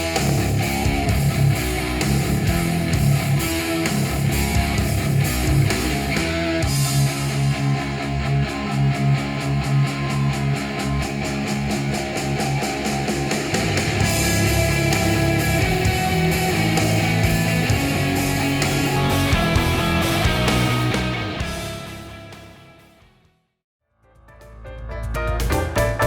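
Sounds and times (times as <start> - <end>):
rock music through speakers: 0.0 - 23.2.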